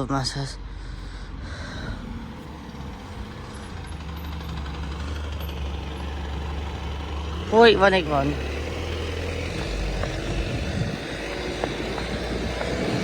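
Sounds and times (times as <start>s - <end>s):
diesel bus engine droning: 0.0s - 13.0s.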